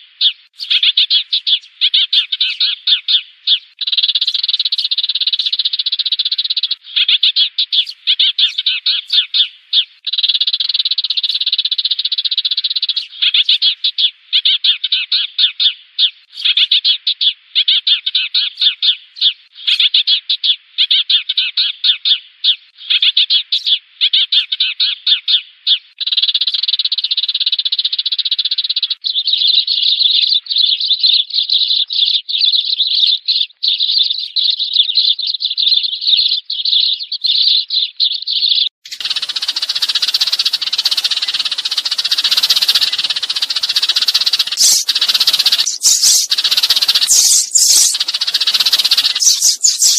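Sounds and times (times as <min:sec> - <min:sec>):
sparrows chattering: 0:00.0 - 0:49.9.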